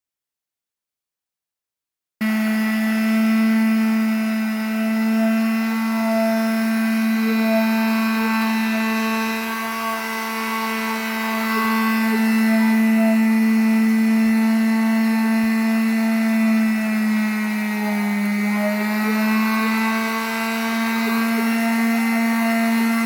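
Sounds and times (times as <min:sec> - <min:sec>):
power tool motor hum-whine: 0:02.2 - 0:23.0.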